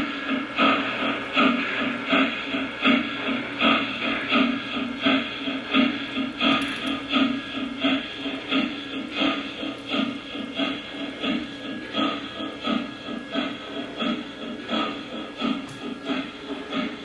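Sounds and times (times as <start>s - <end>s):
model train steam chuffs: 0.0s - 17.0s.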